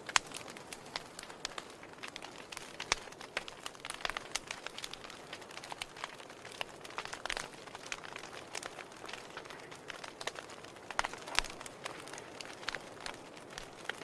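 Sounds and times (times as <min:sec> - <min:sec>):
firewood crackling and popping: 0:00.0 - 0:14.0
soft fire hiss: 0:00.0 - 0:14.0.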